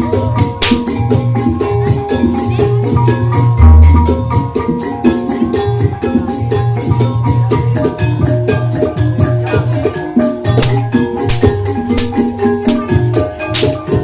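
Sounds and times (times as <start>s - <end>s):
drums: 0.0s - 14.0s
metallophones playing fast notes: 0.0s - 14.0s.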